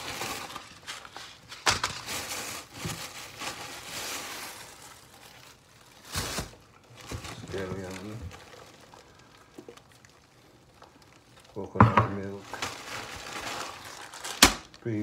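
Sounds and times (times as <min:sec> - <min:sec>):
bag and packaging rustling: 0:00.0 - 0:15.0.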